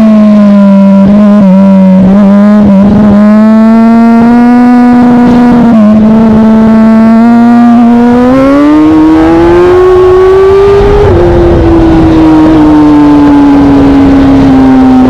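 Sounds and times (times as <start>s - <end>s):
motorcycle engine revving high: 0.0s - 15.0s.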